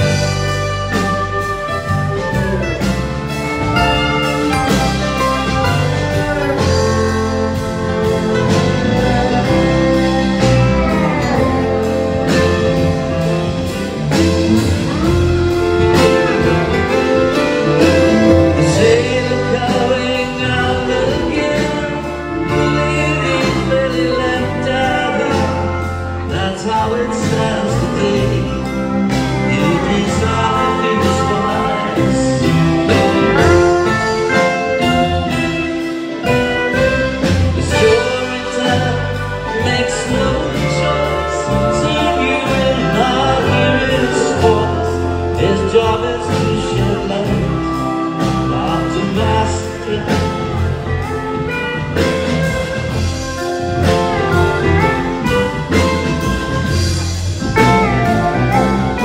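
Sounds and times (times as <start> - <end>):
acoustic guitar: 0.0 - 59.0
electric bass: 0.0 - 59.0
steady drum beat: 0.0 - 59.0
steel guitar gliding notes: 0.0 - 59.0.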